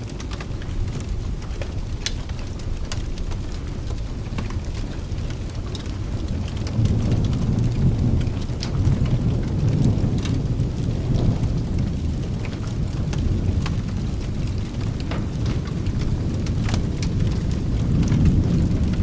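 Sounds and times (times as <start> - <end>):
sharp ticks and crackles: 0.0 - 19.0
steady rain: 0.0 - 19.0
thunder rumbling: 0.0 - 19.0.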